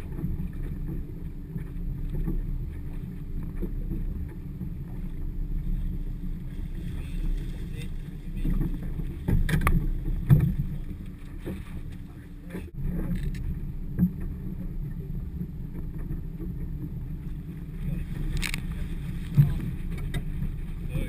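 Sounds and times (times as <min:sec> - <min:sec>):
wind and water rumbling: 0:00.0 - 0:21.0.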